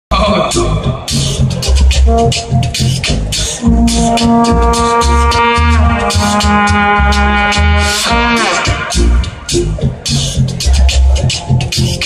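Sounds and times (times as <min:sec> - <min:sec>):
deep repeating bass line: 0:00.1 - 0:12.0
looped busker music through speaker: 0:00.1 - 0:12.0.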